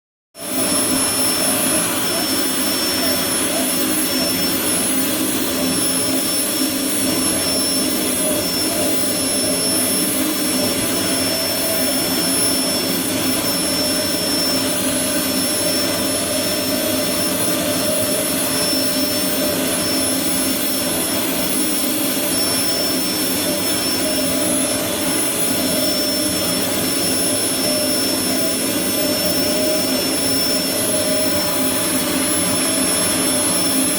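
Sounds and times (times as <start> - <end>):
vacuum cleaner running: 0.4 - 33.9.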